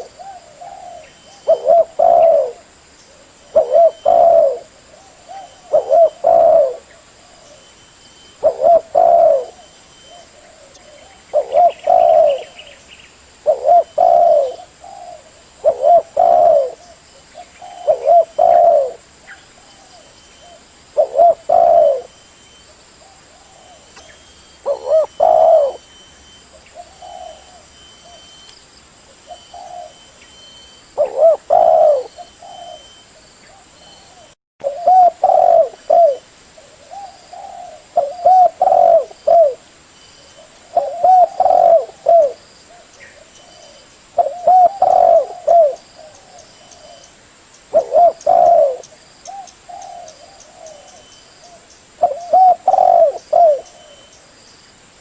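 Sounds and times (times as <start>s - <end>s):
dove cooing: 0.0s - 12.8s, 13.4s - 22.2s, 23.0s - 28.4s, 29.1s - 47.1s, 47.7s - 54.2s.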